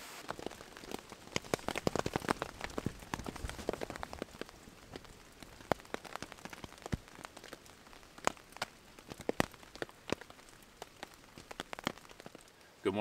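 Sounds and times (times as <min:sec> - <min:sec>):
rain drops on tarp: 0:00.0 - 0:13.0.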